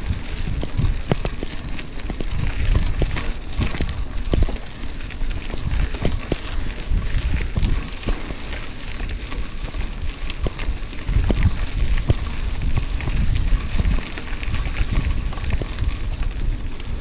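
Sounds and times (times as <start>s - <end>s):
irregular crackles and clicks: 0.0s - 17.0s
wind rumbling on microphone: 0.0s - 17.0s.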